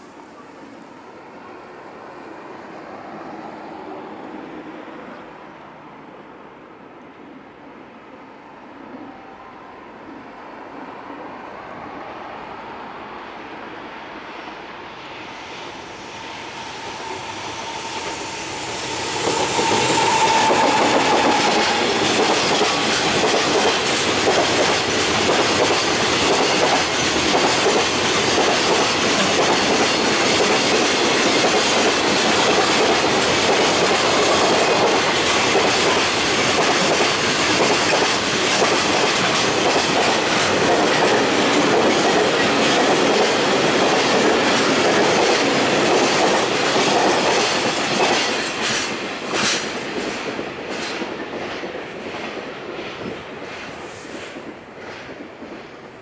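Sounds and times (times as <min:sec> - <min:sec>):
electric locomotive passing: 0:00.0 - 0:56.0.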